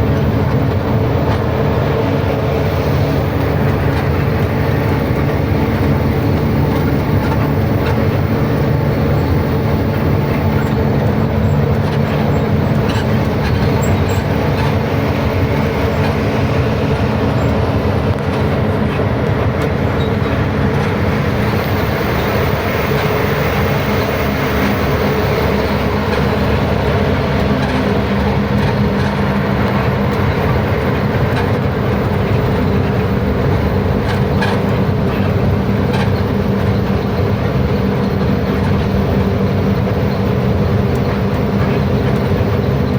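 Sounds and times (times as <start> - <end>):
road rumble: 0.0 - 42.9
truck engine drone: 0.0 - 42.9.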